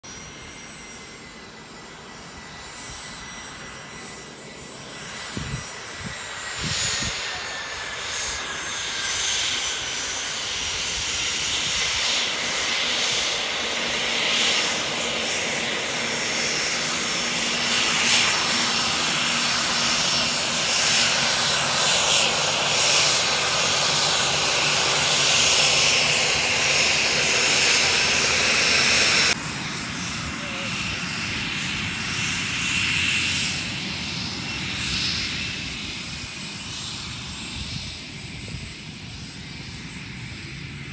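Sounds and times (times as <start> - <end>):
jet engines whining and hissing: 0.0 - 40.9.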